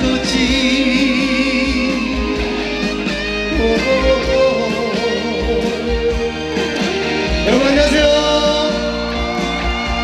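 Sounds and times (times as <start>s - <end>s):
bass and beat: 0.0s - 10.0s
electric guitar lead: 0.0s - 10.0s.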